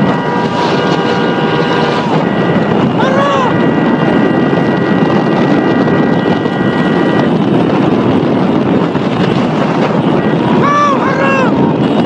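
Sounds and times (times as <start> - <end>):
vehicle engine driving fast: 0.0 - 12.0
wind buffeting microphone: 0.0 - 12.0.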